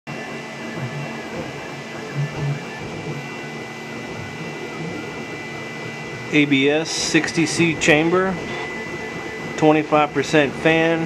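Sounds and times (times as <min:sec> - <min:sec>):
stepper motor whine: 0:00.1 - 0:11.0.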